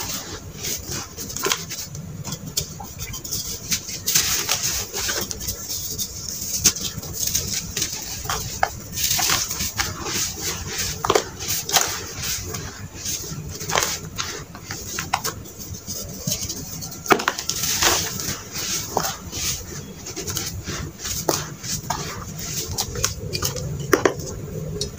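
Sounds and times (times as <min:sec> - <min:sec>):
hands rubbing dry sand: 0:00.0 - 0:24.9.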